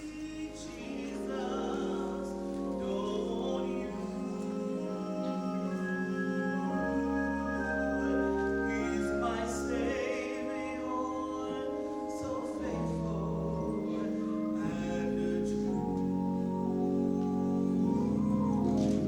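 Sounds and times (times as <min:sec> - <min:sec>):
organ playing slow chords: 0:00.0 - 0:19.0
voices singing: 0:00.0 - 0:19.0.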